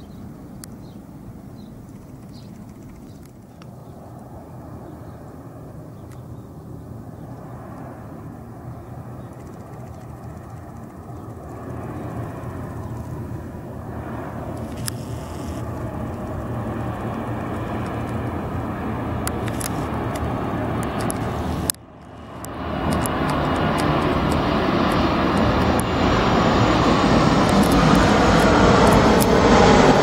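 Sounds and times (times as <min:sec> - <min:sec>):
airliner engines droning: 0:00.0 - 0:30.0.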